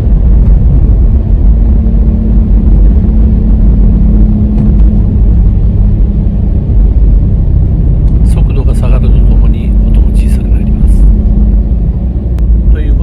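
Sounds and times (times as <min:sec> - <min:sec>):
car driving low rumble: 0:00.0 - 0:13.0
wheel bearing droning hum: 0:00.0 - 0:13.0.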